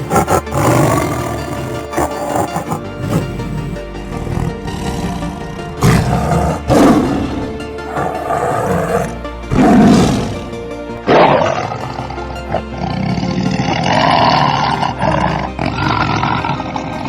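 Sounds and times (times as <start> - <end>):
background music: 0.0 - 17.0
tiger roaring: 0.0 - 17.0.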